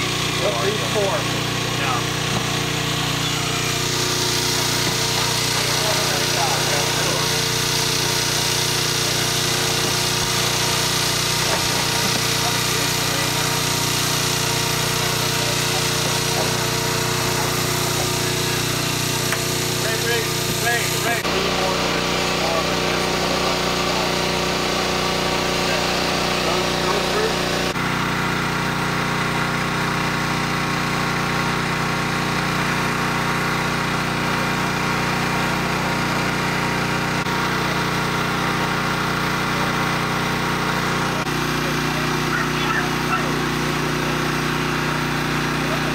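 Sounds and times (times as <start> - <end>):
machine droning: 0.0 - 45.9.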